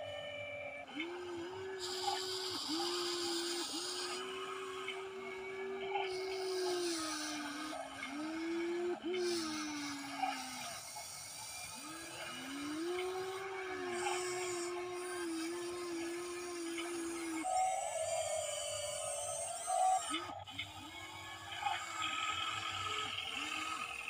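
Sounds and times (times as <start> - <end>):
electric motors whining: 0.0 - 24.0.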